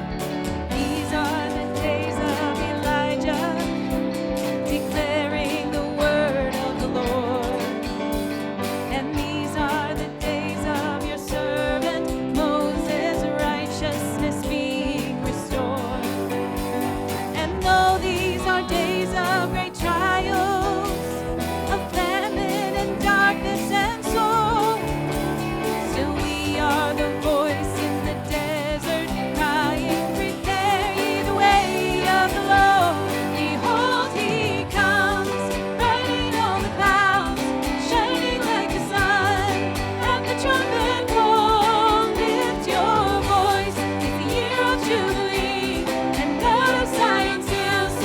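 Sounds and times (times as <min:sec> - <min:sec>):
instrumental accompaniment: 0:00.0 - 0:48.0
worship singing with vibrato: 0:00.0 - 0:48.0.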